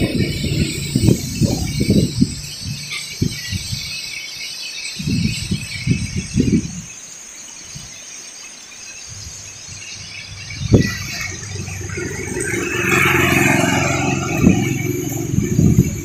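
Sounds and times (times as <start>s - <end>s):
wind buffeting microphone: 0.0s - 4.4s, 5.0s - 7.0s, 9.0s - 16.0s.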